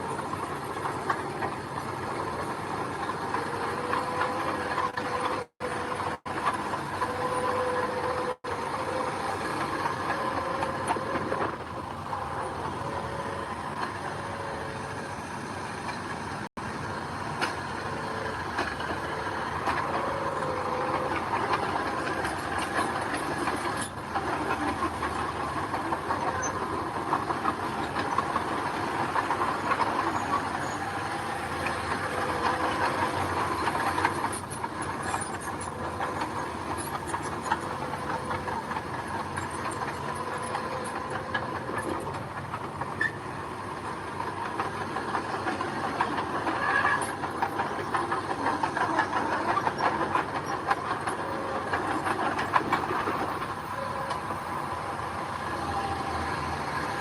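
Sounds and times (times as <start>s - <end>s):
diesel engine running: 0.0s - 57.0s
steel tracks clattering: 0.0s - 57.0s.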